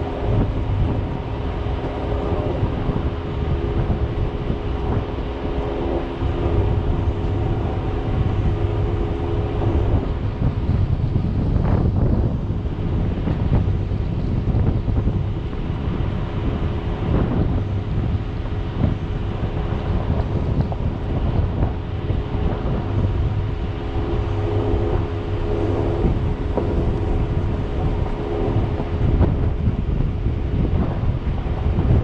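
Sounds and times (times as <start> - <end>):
car engine running: 0.0 - 32.0
wind rumble on microphone: 0.0 - 32.0.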